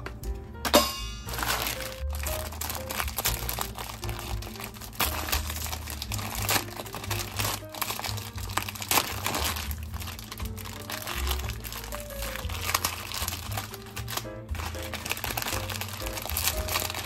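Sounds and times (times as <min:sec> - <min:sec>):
background music: 0:00.0 - 0:17.0
plastic packets crinkling: 0:01.2 - 0:17.0.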